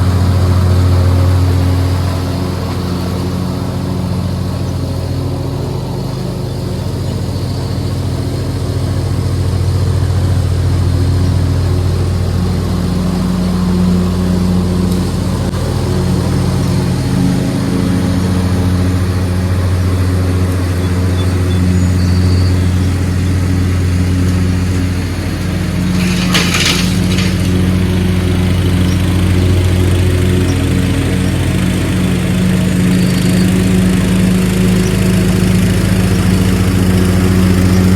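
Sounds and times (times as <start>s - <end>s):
riding mower engine running: 0.0s - 37.9s.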